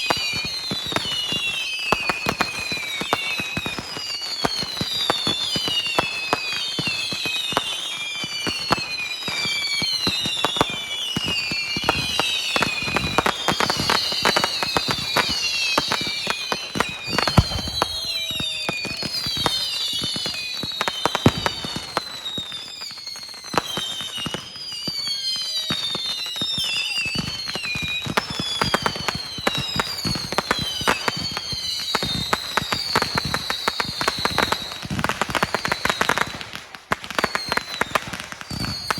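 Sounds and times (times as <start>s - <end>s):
fireworks crackling and popping: 0.0s - 38.9s
fireworks whistling: 0.0s - 38.9s.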